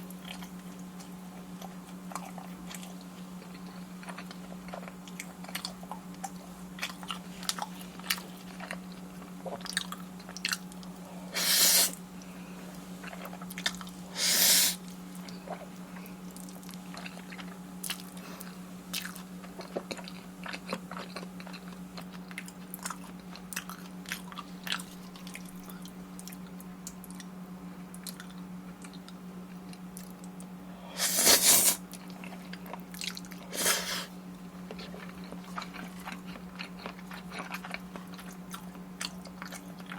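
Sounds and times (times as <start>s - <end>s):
steady low hum: 0.0s - 39.9s
wet chewing and mouth clicks: 0.2s - 11.0s, 13.0s - 14.0s, 15.1s - 27.3s, 27.9s - 30.5s, 31.9s - 33.9s, 34.7s - 39.9s.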